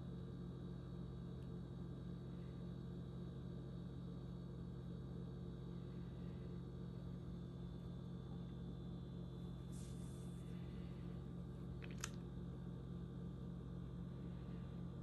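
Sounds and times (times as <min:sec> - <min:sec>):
low hum with held tones: 0:00.0 - 0:15.0.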